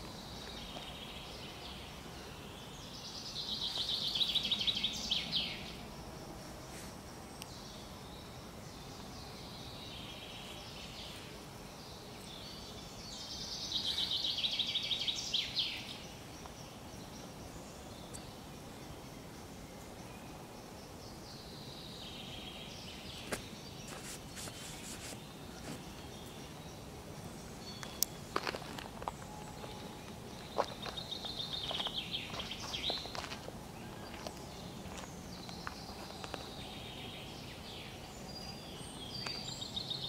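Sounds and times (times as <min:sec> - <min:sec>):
outdoor ambient noise: 0:00.0 - 0:40.0
birds calling: 0:06.7 - 0:40.0.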